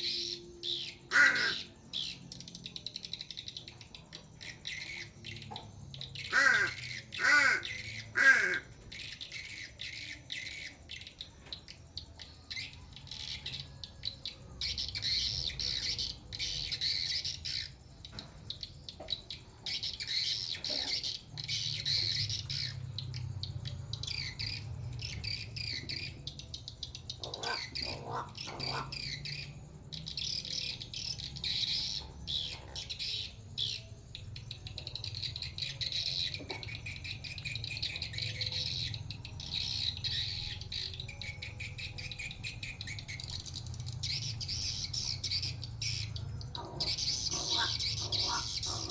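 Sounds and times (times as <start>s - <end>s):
birds chirping and squawking: 0.0s - 48.9s.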